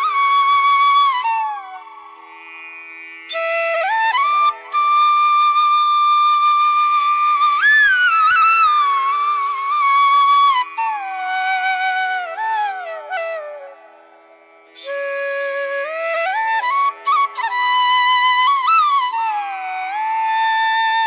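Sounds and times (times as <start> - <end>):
flute melody: 0.0 - 2.2, 3.3 - 14.0, 14.8 - 21.0.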